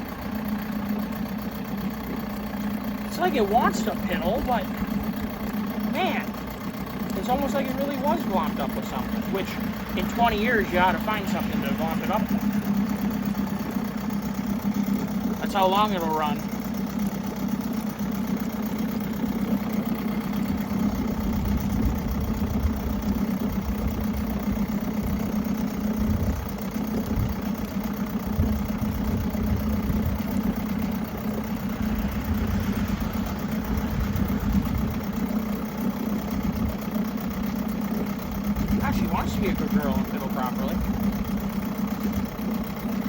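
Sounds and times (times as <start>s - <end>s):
outboard motor idling: 0.0s - 43.0s.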